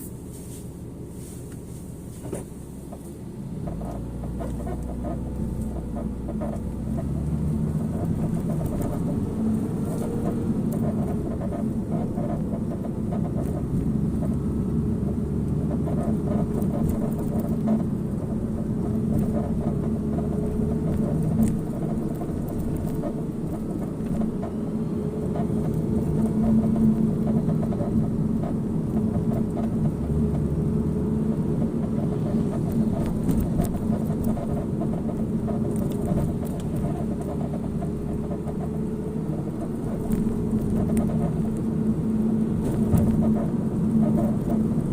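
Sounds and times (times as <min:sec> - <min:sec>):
car creaking: 0:00.0 - 0:44.9
car road noise rumbling: 0:00.0 - 0:44.9.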